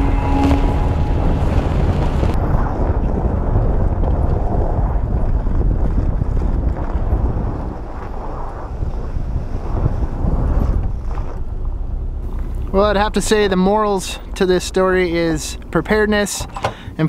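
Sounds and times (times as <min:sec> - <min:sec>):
van and tyres rumbling: 0:00.0 - 0:17.0
wind buffeting microphone: 0:00.0 - 0:17.0.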